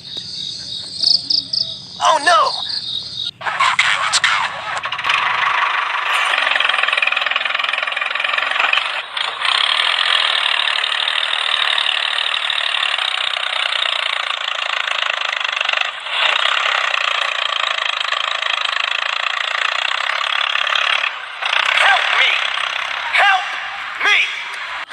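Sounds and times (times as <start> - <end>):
small electric motor running: 4.0 - 24.9.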